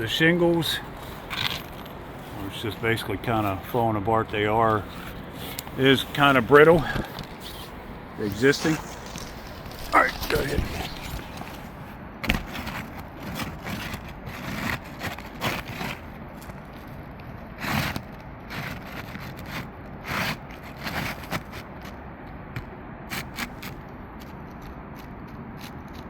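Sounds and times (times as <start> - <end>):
roof shingles scraping and crackling: 0.0 - 22.0.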